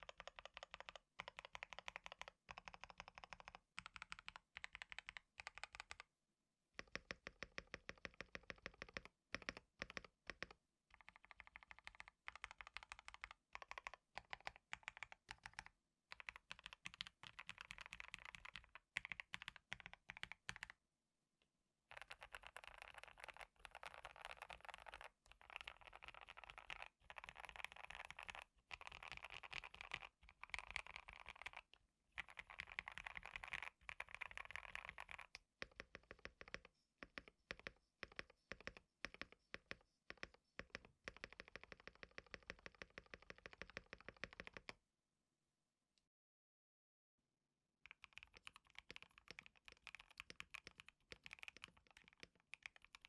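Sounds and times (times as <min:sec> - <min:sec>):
mechanical keyboard typing: 0:00.0 - 0:06.0, 0:06.8 - 0:20.8, 0:21.9 - 0:44.8, 0:47.9 - 0:53.0.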